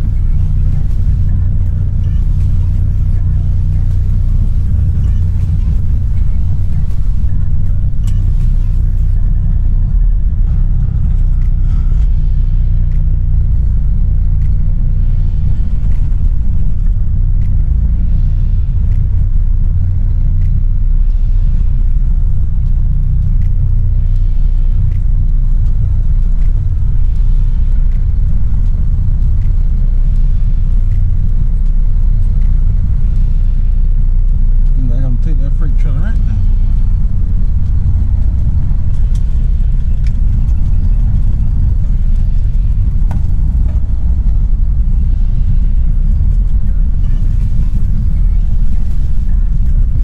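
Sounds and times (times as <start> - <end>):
truck diesel engine rumbling: 0.0 - 50.0.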